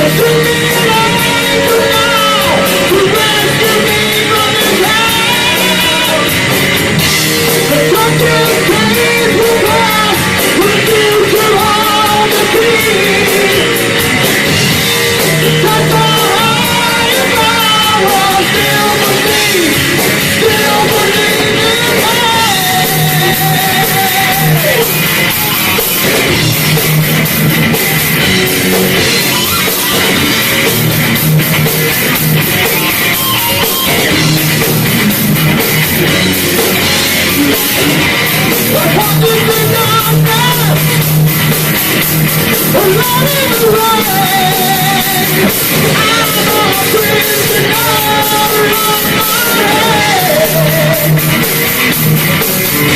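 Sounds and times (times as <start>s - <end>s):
heavy metal band playing: 0.0s - 52.9s.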